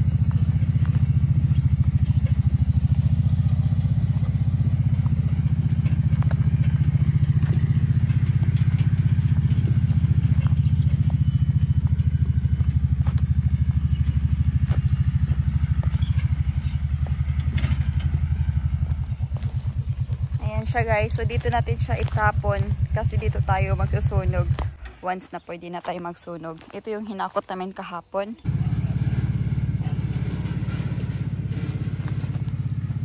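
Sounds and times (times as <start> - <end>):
quad bike engine running: 0.0 - 27.5, 28.4 - 33.0.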